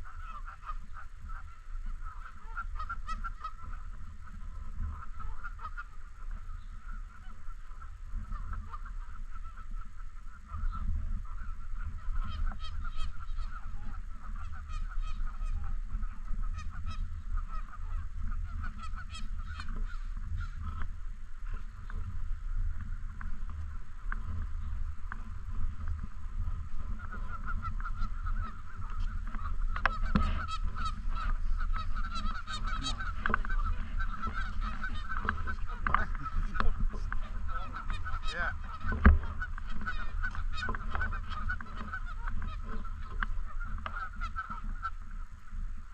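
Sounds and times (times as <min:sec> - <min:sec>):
geese honking: 0:00.0 - 0:45.9.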